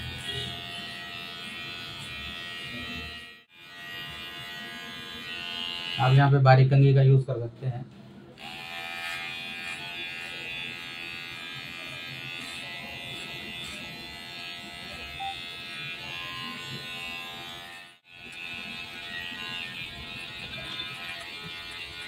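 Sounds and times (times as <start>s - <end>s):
electric hair clipper buzzing: 0.0s - 6.3s, 8.4s - 22.0s.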